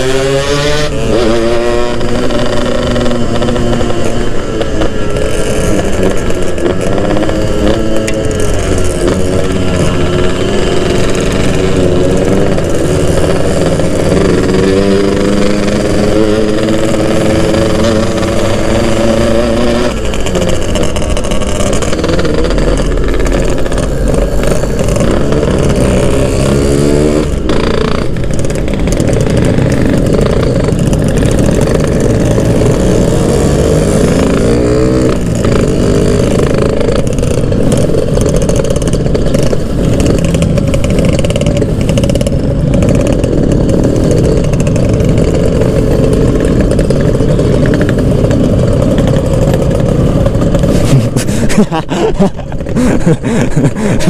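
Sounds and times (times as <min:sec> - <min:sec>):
two-stroke motorcycle engine revving: 0:00.0 - 0:54.0
wind and road noise: 0:00.0 - 0:54.0.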